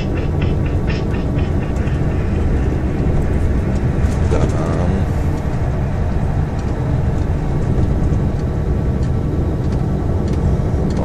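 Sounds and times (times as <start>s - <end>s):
engine and road rumble in cab: 0.0s - 11.0s.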